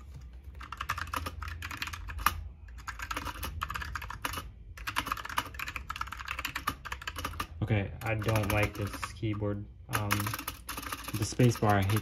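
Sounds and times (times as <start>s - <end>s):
fast typing on mechanical keyboard: 0.5s - 12.0s.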